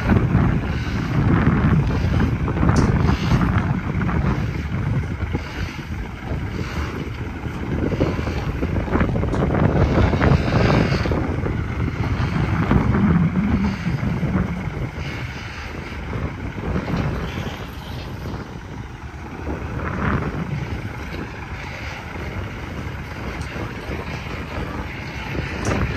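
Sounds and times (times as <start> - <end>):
diesel truck engine running: 0.0 - 25.9
wind on microphone: 0.0 - 25.9.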